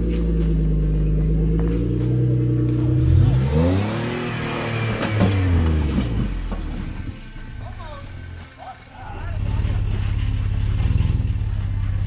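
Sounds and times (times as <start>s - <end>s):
vehicle engine revving: 0.0s - 8.5s, 9.1s - 12.0s.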